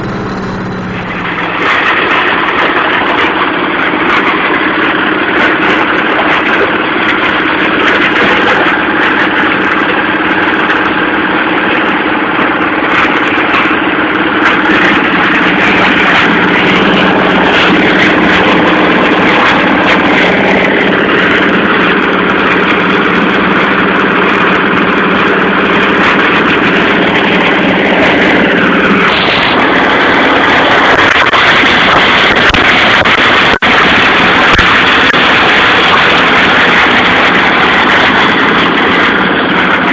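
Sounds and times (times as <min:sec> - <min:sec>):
low hum: 0:00.0 - 0:39.9
shredder machine din: 0:00.0 - 0:39.9.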